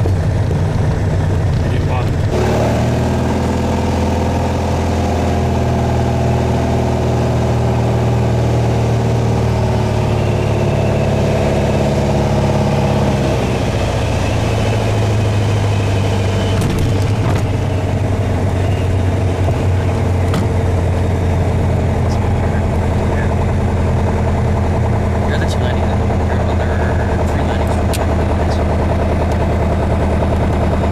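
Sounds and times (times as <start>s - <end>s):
aircraft engine and propeller drone: 0.0s - 30.9s.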